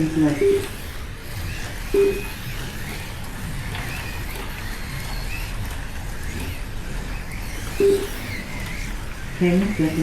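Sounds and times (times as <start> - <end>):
slot car motors whining: 0.0 - 10.0
wheels rushing on plastic track: 0.0 - 10.0.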